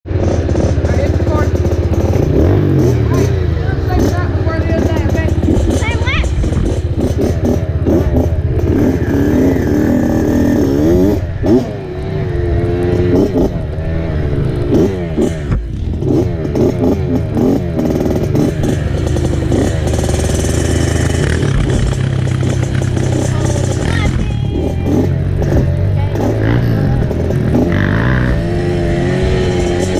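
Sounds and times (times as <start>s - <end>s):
dirt bike engine accelerating: 0.1s - 29.9s.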